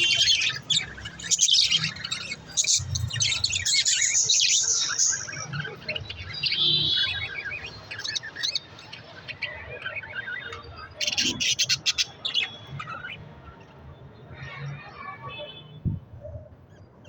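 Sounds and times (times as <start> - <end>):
budgerigars chirping: 0.0 - 13.7.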